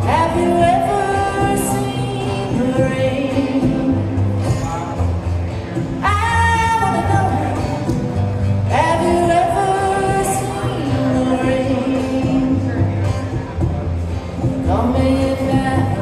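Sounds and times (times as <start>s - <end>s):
person singing: 0.0s - 5.0s, 6.0s - 13.2s, 14.6s - 16.0s
steady bass line: 0.0s - 16.0s.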